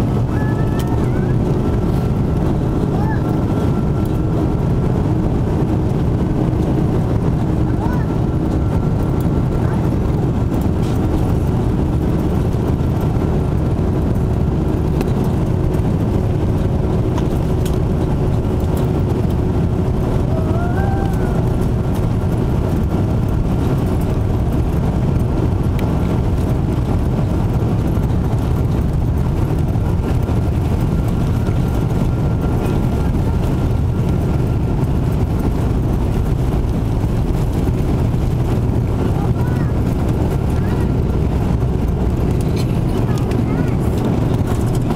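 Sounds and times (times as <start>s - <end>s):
faint engine whine: 0.0s - 44.9s
jet engines deep rumble: 0.0s - 44.9s.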